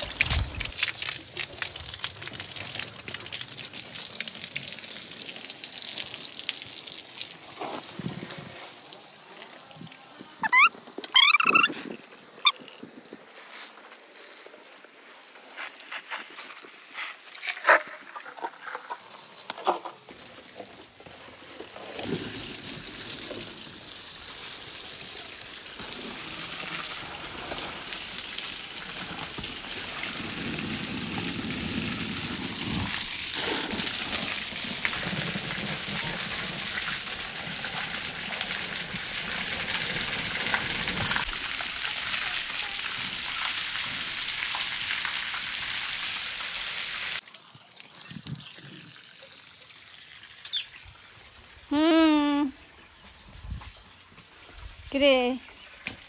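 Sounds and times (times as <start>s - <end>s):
hose water spraying on concrete: 0.0s - 52.5s.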